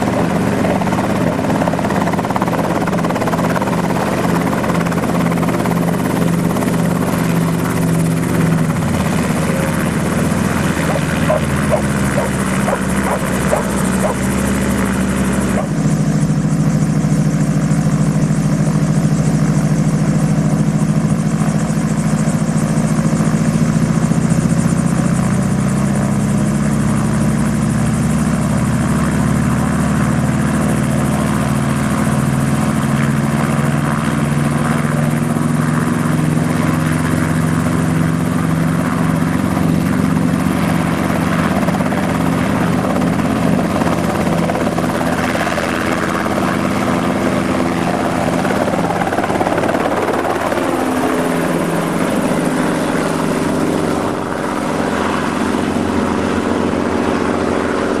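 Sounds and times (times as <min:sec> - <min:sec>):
helicopter engine and rotor: 0:00.0 - 0:58.0.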